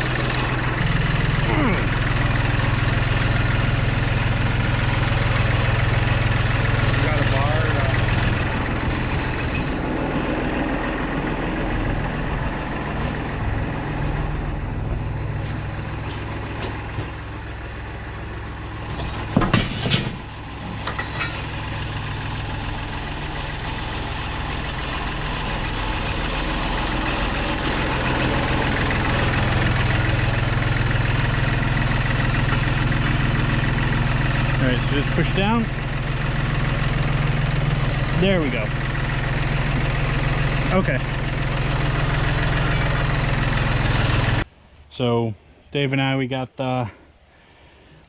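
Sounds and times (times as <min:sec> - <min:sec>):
tractor engine idling: 0:00.0 - 0:45.1.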